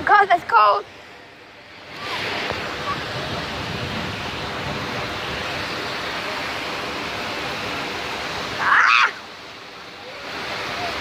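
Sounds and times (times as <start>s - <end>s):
ocean surf washing in: 0.0s - 11.0s.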